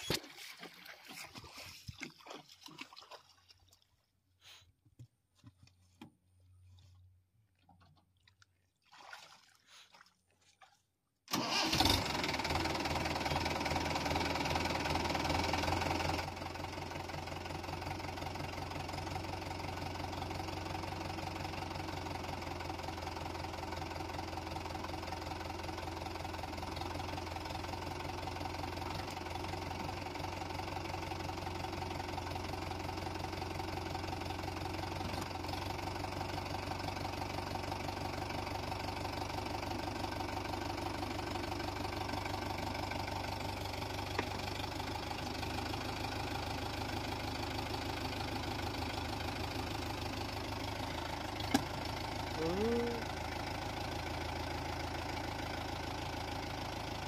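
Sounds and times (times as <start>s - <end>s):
diesel tractor engine idling: 11.3s - 57.0s.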